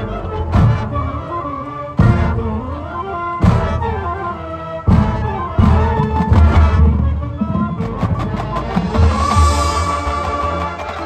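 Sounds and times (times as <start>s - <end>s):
marching band chords: 0.0s - 11.0s.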